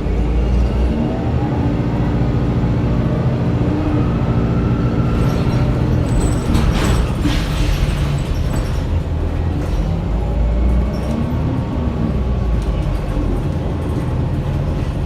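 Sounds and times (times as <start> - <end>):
bus drivetrain hum: 0.0 - 15.0.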